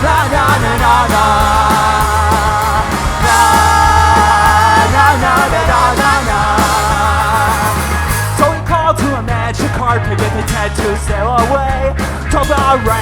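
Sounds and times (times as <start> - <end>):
person singing: 0.0 - 13.0
punk rock band playing: 0.0 - 13.0.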